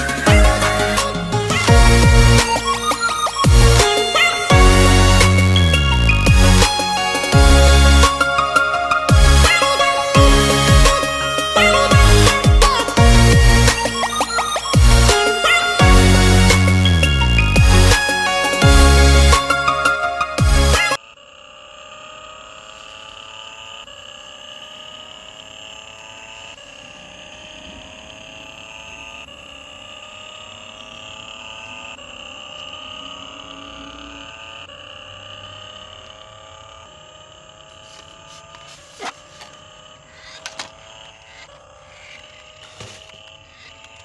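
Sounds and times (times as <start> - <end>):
toy car engine sound effect: 0.0 - 44.0.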